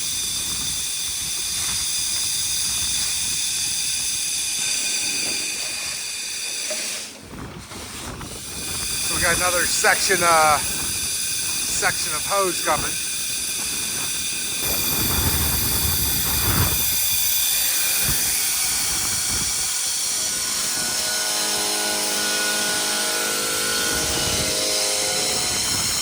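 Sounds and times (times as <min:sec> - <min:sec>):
low whining tones: 0:00.0 - 0:26.0
vacuum truck blower hissing: 0:00.0 - 0:26.0.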